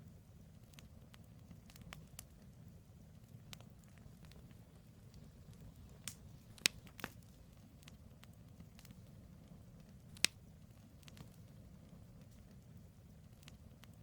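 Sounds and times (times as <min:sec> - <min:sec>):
campfire crackling: 0:00.0 - 0:14.0
low steady rumble: 0:00.0 - 0:14.0
fire pops: 0:00.4 - 0:14.0.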